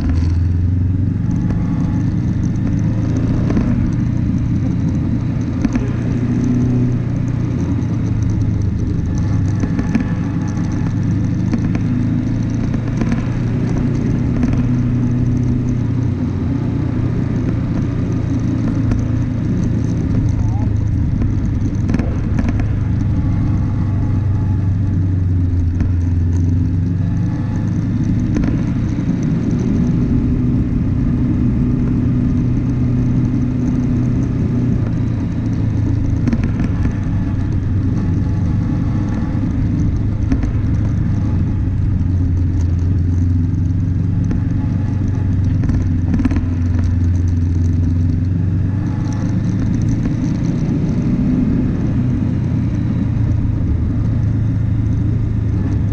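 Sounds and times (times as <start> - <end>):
car engine running: 0.0 - 55.9
car rattling over bumps: 0.0 - 55.9.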